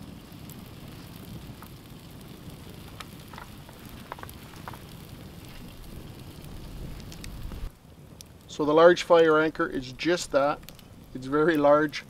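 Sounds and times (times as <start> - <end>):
campfire crackling: 0.0 - 12.0
sharp fire pops: 0.0 - 12.0.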